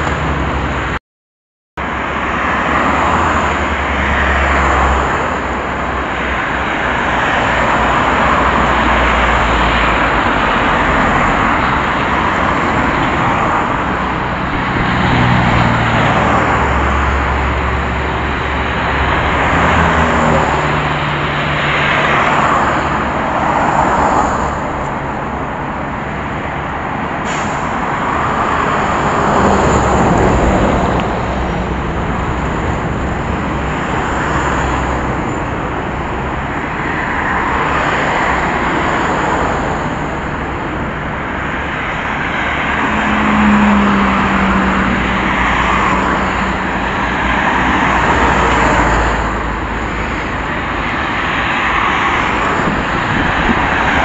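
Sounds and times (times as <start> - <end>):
cars passing on a road: 0.0 - 1.0, 1.8 - 54.0.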